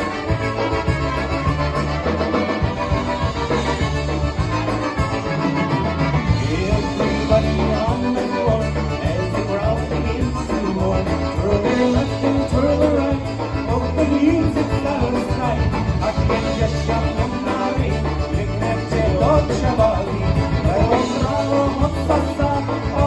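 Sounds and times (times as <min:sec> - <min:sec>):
low bass notes: 0:00.0 - 0:23.0
polka band playing: 0:00.0 - 0:23.0.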